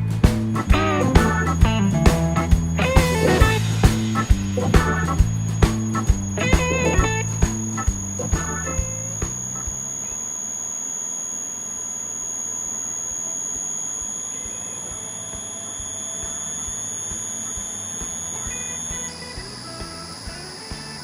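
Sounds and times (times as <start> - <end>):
electric motor whining: 0.6 - 21.0.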